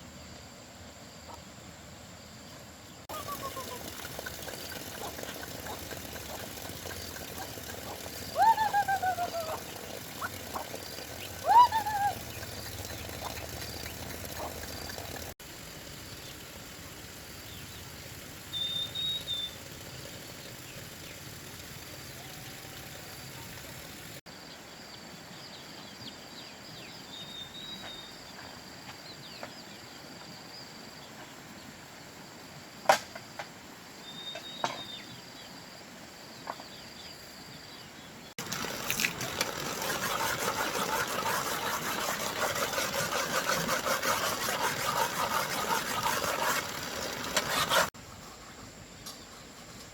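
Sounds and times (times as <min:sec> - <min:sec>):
outdoor rural ambience: 0:00.0 - 0:49.9.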